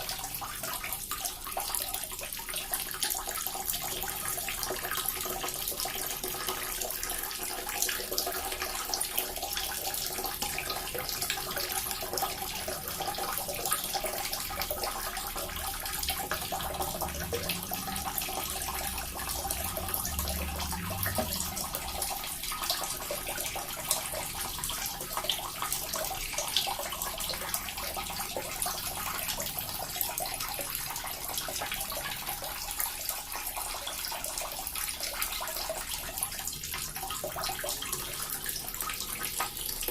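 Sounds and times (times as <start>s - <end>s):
small water fountain trickling: 0.0s - 39.9s.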